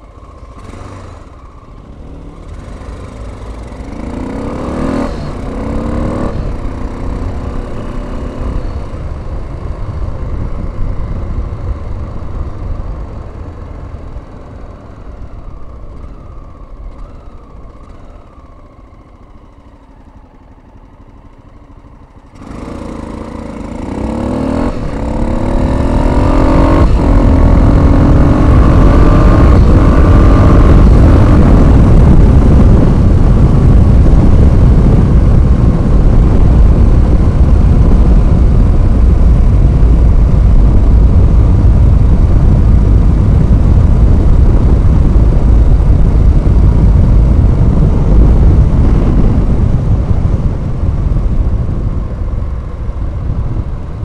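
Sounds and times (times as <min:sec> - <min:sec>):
wind rushing on microphone: 0:00.0 - 0:17.9, 0:22.4 - 0:54.0
motorcycle engine idling and revving: 0:00.0 - 0:54.0.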